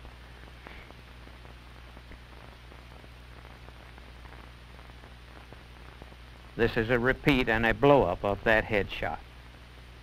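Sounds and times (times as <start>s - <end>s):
faint crackles: 0.0s - 10.0s
film soundtrack hiss and hum: 0.0s - 10.0s.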